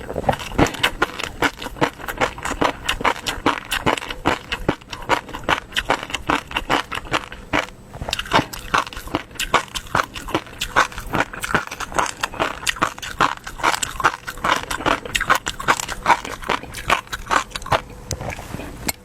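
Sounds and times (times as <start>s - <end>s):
person chewing and biting: 0.0s - 19.0s.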